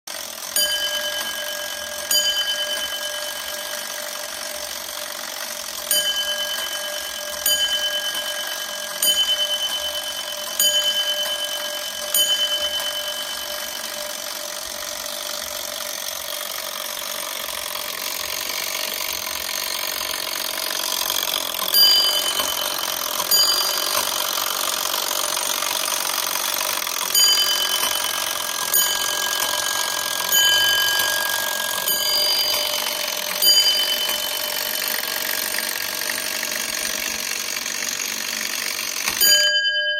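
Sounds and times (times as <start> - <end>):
clockwork gear whirr: 0.1 - 39.9.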